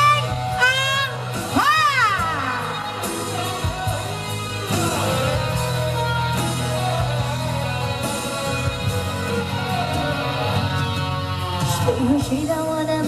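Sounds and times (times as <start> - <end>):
guitar: 0.0 - 13.0
pop song backing track: 0.0 - 13.0
steady bass: 0.0 - 13.0.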